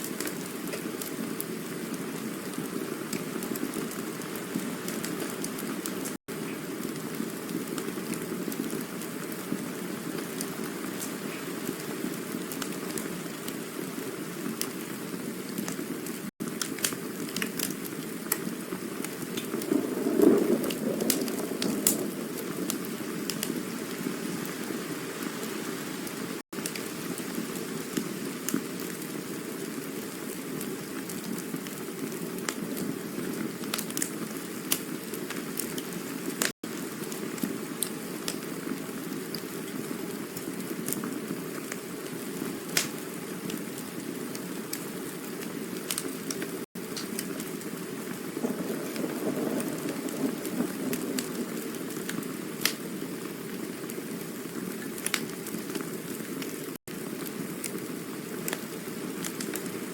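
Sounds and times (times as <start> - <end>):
campfire hissing: 0.0 - 59.9
fire crackles and pops: 0.0 - 59.9.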